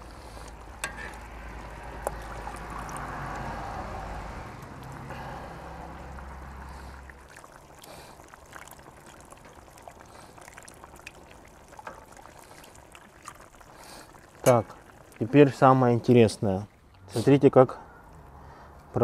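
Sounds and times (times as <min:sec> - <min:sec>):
liquid trickling: 0:00.0 - 0:17.1.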